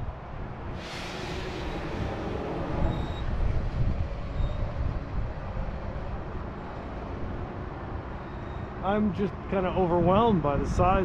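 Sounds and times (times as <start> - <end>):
wind on microphone: 0.0 - 8.2, 9.2 - 11.0
low rumble of road traffic: 0.0 - 11.0.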